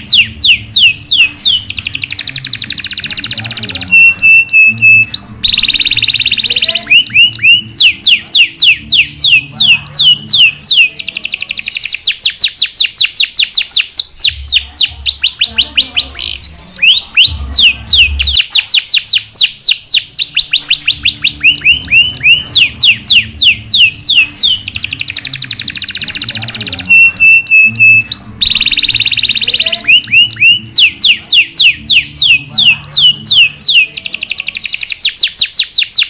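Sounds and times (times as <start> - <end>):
canary singing: 0.0 - 36.0.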